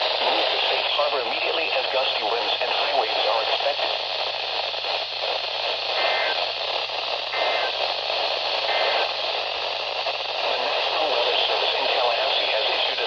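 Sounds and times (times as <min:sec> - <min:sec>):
radio static hiss: 0:00.0 - 0:13.0
faint two-tone data bursts: 0:00.3 - 0:13.0.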